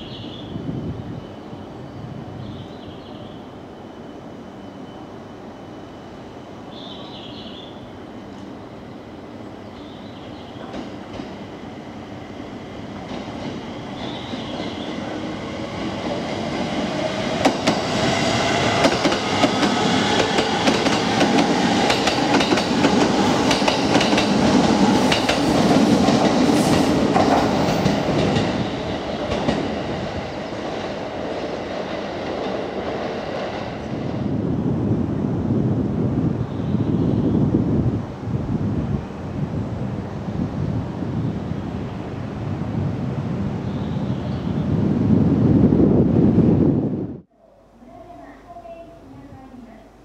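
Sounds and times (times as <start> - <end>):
electric train passing slowly: 0.0 - 50.0.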